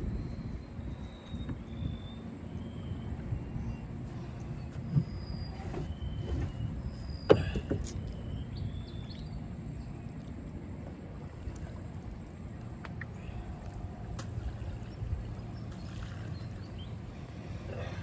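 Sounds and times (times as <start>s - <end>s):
boat motor rumbling: 0.0s - 18.0s.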